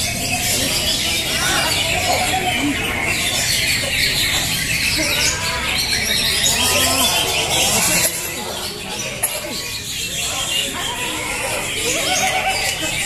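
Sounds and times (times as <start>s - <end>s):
crowd voices: 0.0s - 13.0s
many birds singing: 0.0s - 13.0s.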